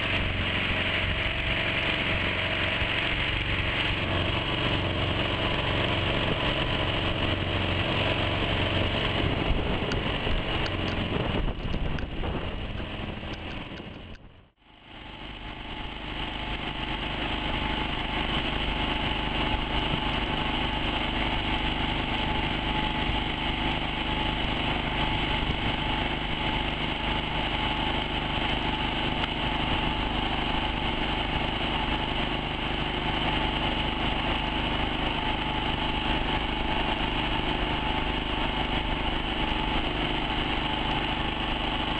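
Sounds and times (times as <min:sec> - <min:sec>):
boat outboard engine running: 0:00.0 - 0:41.9.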